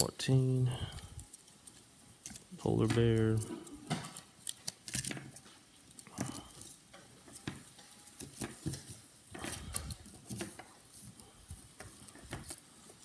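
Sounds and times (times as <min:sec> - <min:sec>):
plastic sleeves crinkling: 0:00.0 - 0:13.0.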